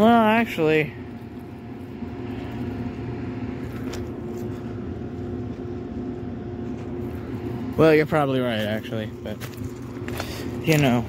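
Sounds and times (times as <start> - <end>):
low mechanical hum and rumble: 0.0 - 11.0.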